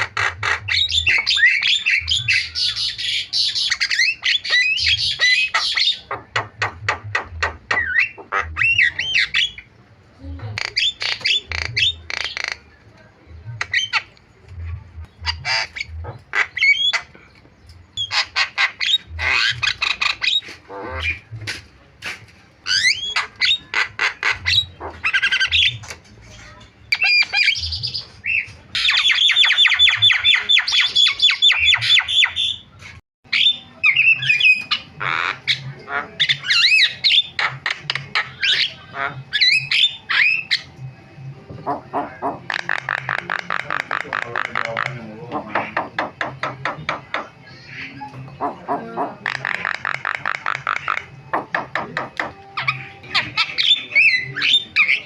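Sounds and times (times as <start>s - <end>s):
bird singing varied song: 0.0s - 21.6s, 22.6s - 55.0s.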